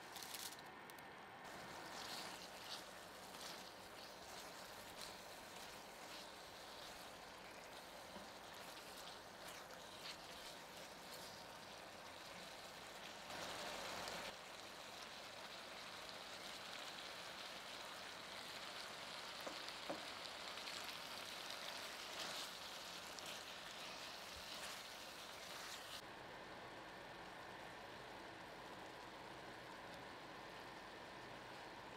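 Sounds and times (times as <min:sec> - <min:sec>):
sauce simmering in a pan: 0:01.5 - 0:31.9.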